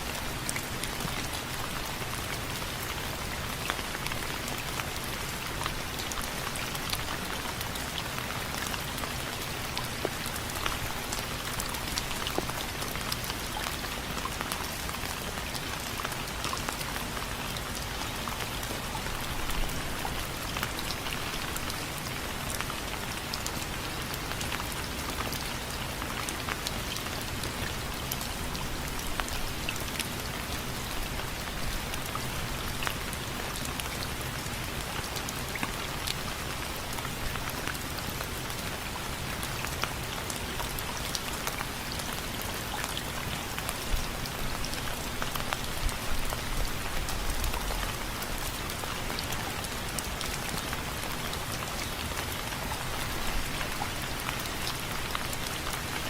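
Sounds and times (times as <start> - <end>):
rain on window frames: 0.0 - 56.0.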